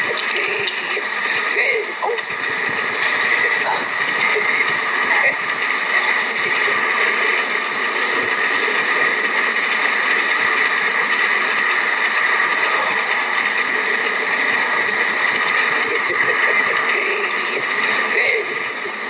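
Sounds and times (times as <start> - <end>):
train carriage rattling on rails: 0.0 - 19.0.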